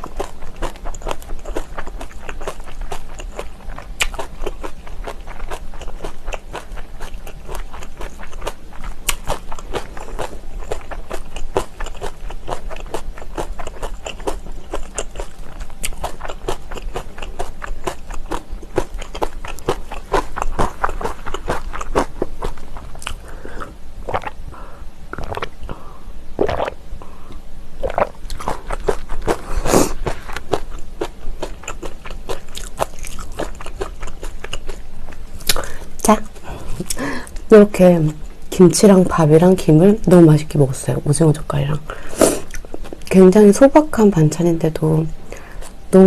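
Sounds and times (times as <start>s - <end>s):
person chewing and crunching food: 0.0s - 25.8s, 26.4s - 38.6s, 41.9s - 43.2s, 45.3s - 46.0s.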